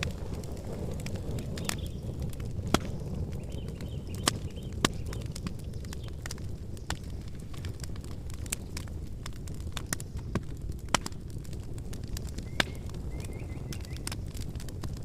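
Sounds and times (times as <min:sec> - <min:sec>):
campfire pops and snaps: 0:00.0 - 0:15.0
flames low rumble: 0:00.0 - 0:15.0.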